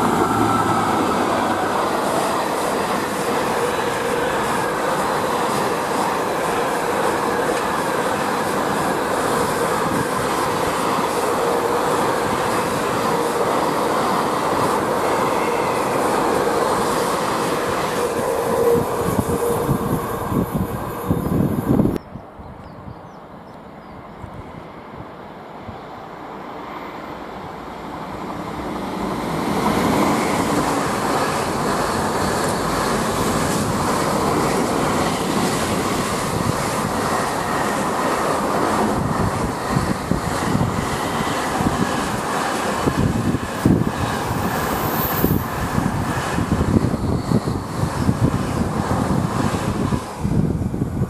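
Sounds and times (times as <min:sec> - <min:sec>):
freight train rumbling past: 0:00.0 - 0:51.0.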